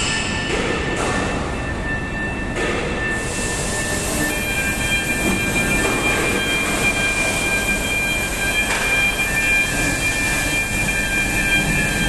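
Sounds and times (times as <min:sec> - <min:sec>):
high steady whining tones: 0:00.0 - 0:12.0
steady mechanical din: 0:00.0 - 0:12.0.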